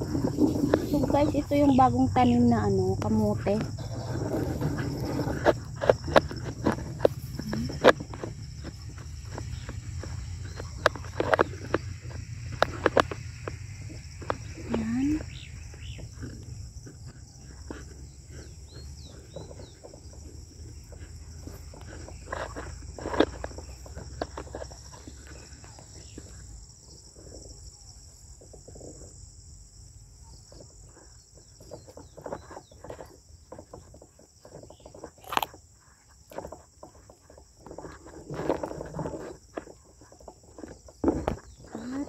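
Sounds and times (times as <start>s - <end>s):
crickets and insects shrilling: 0.0s - 42.0s.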